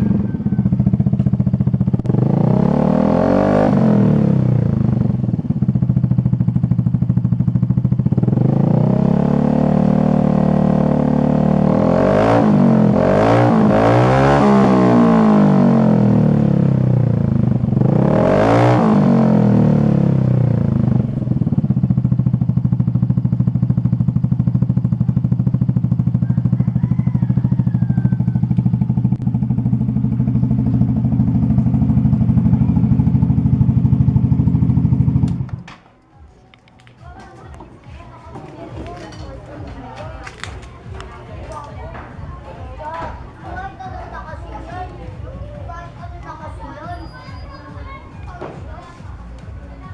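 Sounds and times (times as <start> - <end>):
scooter engine idling and revving: 0.0 - 36.8, 37.4 - 49.9.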